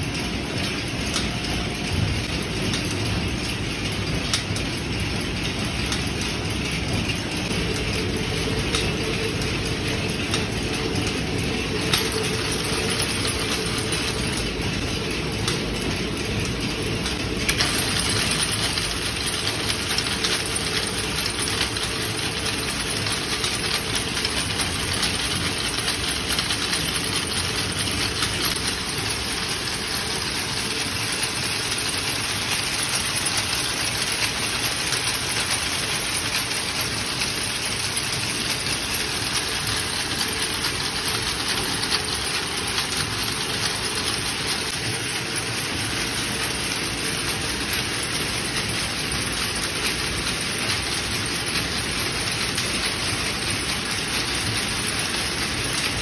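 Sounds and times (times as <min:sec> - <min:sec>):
braiding machines clattering: 0:00.0 - 0:56.0.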